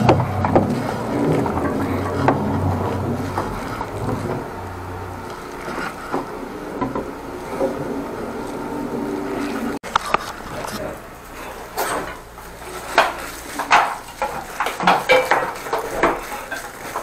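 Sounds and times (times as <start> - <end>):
petrol engine humming: 0.0 - 14.8.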